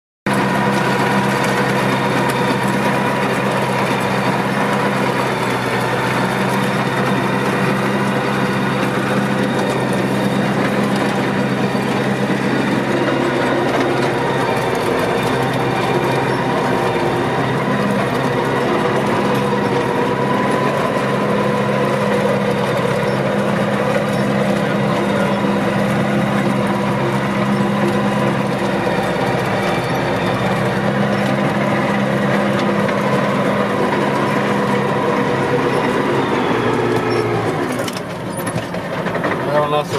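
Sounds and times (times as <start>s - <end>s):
tractor engine running: 0.3s - 39.9s.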